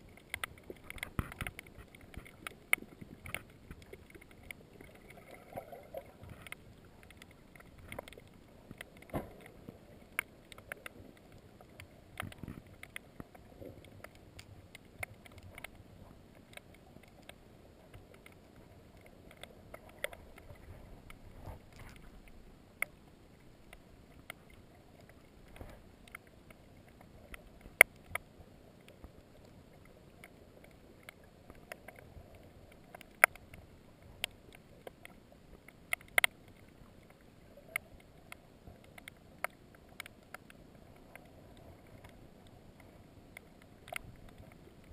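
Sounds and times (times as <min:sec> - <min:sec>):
sharp clicks and ticks: 0:00.1 - 0:21.2, 0:23.6 - 0:42.2.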